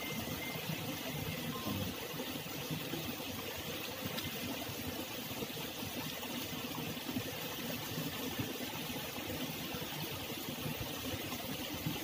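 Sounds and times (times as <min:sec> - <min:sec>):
flowing water babbling: 0:00.0 - 0:12.0.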